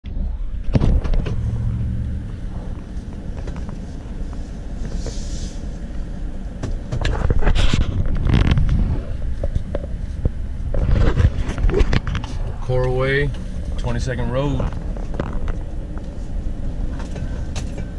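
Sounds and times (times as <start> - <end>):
car engine and road rumble: 0.0 - 17.9.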